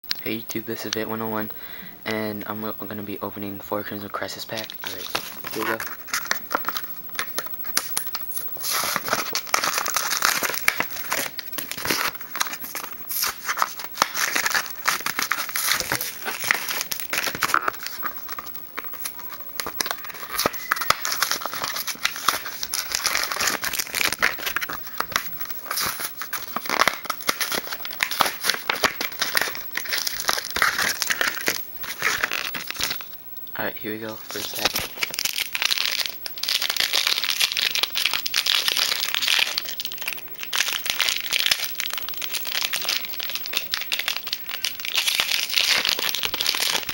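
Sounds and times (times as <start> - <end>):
foil wrappers crinkling and tearing: 2.1 - 46.9.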